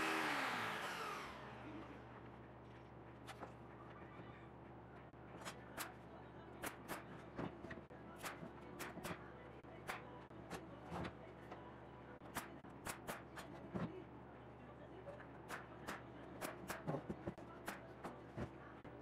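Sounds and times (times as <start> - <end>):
low shop hum: 0.0 - 19.0.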